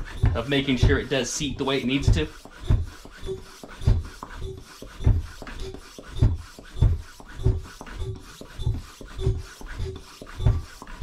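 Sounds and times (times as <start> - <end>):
floor pump thumps: 0.0 - 11.0.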